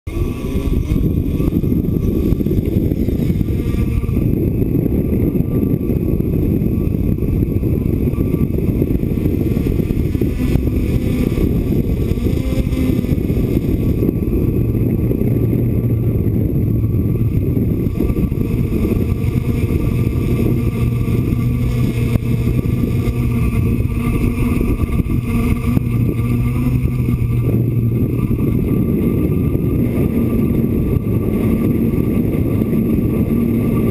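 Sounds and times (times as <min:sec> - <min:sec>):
drone motors and propellers: 0:00.1 - 0:33.9
wind buffeting: 0:00.1 - 0:33.9.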